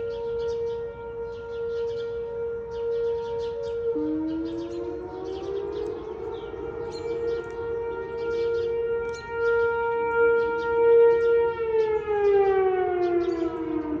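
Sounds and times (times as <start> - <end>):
tornado siren: 0.0 - 14.0.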